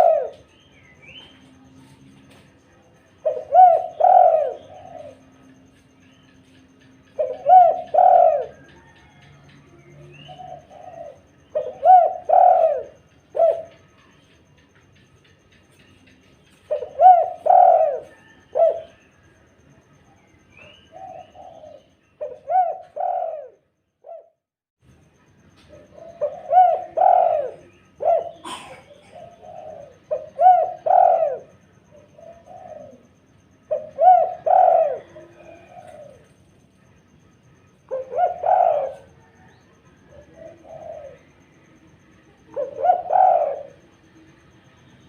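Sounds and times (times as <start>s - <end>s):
dove cooing: 0.0s - 14.6s, 16.5s - 19.5s, 20.5s - 24.4s, 25.3s - 44.6s.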